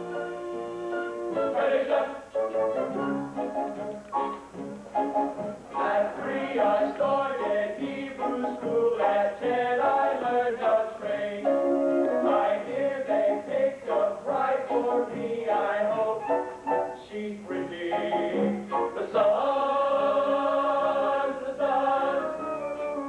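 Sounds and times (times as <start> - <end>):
cast singing with accompaniment: 0.0 - 3.2, 5.6 - 23.0.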